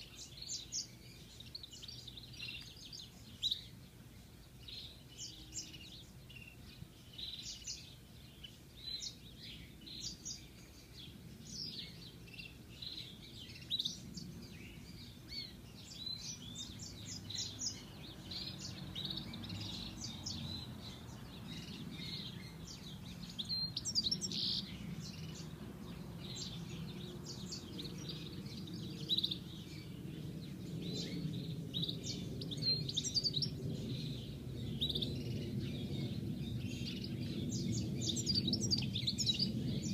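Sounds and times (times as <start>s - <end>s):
goldfinch chirping and twittering: 0.0s - 39.9s.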